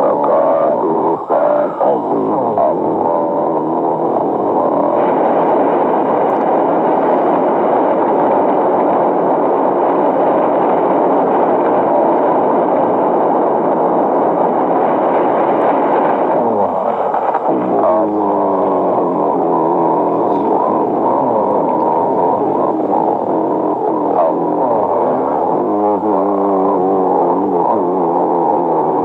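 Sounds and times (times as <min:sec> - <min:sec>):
faint voices: 0:00.0 - 0:29.0
loud rushing rumble: 0:00.6 - 0:28.8.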